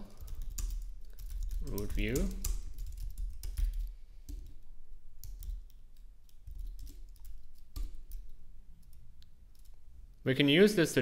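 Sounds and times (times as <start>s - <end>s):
computer keyboard keystrokes: 0.1s - 4.6s, 5.2s - 9.8s.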